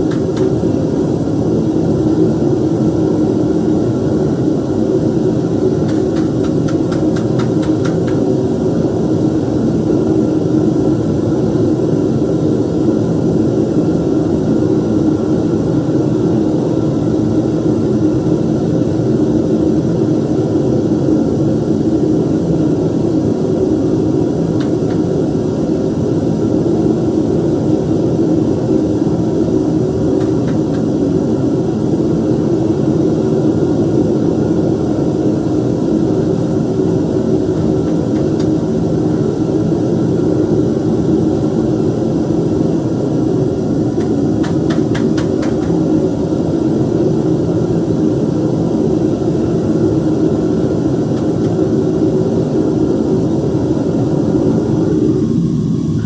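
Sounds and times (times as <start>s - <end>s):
furnace roaring: 0.0s - 56.0s.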